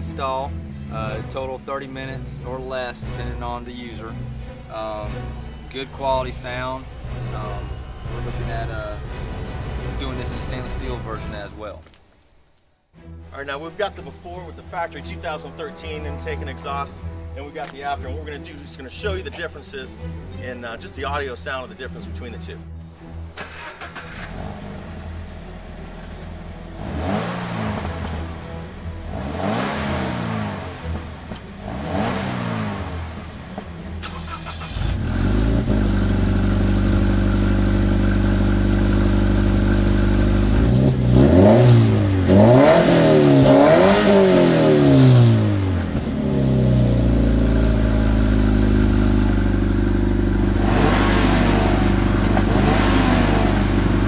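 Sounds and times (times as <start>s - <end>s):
car engine idling and revving: 0.0s - 11.6s, 18.4s - 54.0s.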